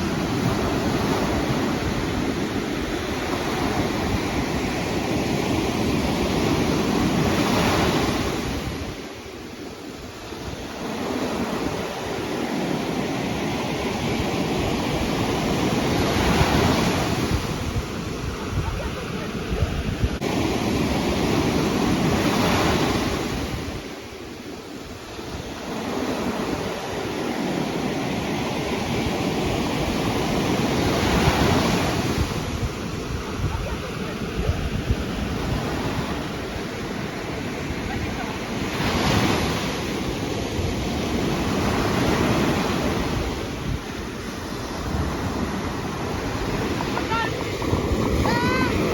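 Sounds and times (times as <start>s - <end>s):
surf breaking on beach: 0.0s - 48.9s
wind rumbling on microphone: 0.0s - 48.9s.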